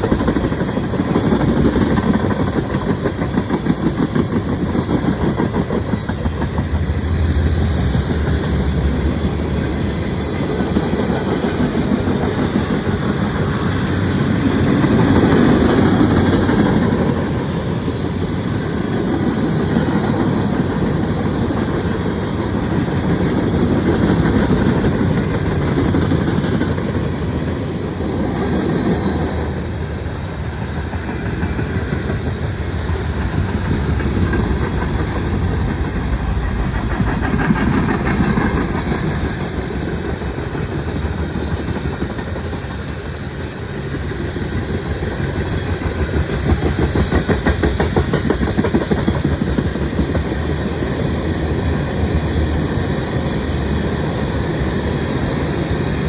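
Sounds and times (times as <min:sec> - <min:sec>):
clickety-clack of wheels over rail joints: 0:00.0 - 0:56.0
train wheels rumbling on rails: 0:00.0 - 0:56.0.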